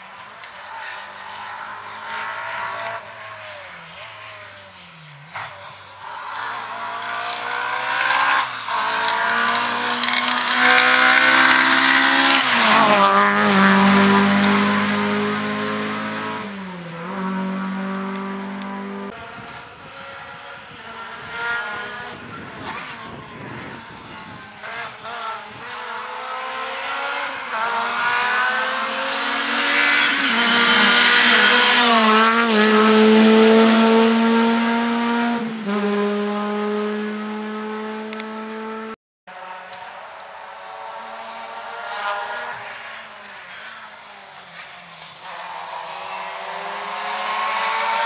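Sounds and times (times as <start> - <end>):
rally car engine revving past: 0.7 - 39.7, 45.2 - 48.0.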